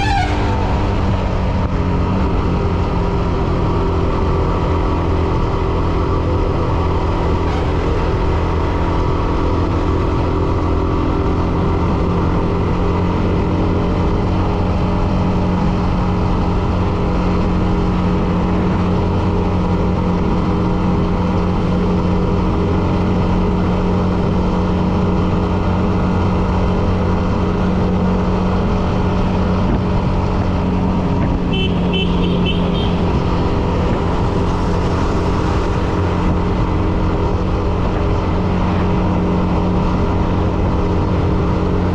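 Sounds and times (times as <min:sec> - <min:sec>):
motorcycle engine cruising: 0:00.0 - 0:41.9.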